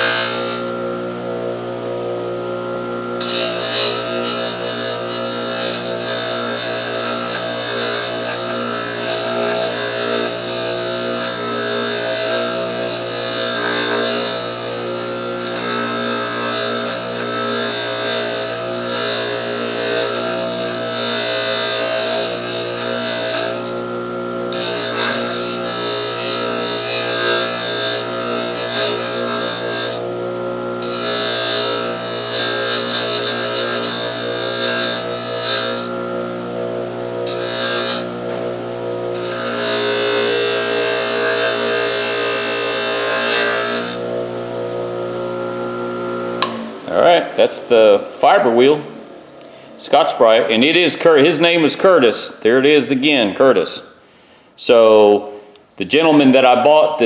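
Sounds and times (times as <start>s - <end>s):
metal grinding hiss: 0.0s - 1.3s, 2.3s - 53.2s
bench grinder motor humming: 0.0s - 47.8s.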